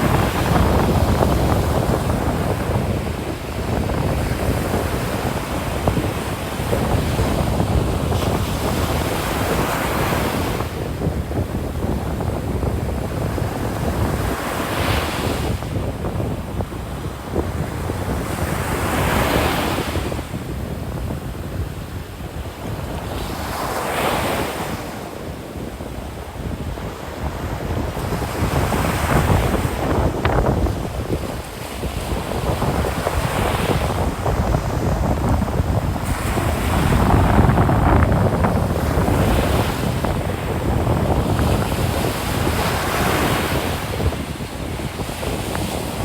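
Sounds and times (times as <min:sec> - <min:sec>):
ocean surf washing onto beach: 0:00.0 - 0:46.0
wind rumble on microphone: 0:00.0 - 0:46.0.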